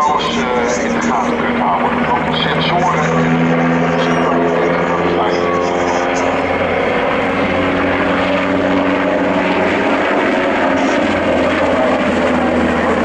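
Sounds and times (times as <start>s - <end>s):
helicopter flying past: 0.0s - 13.0s.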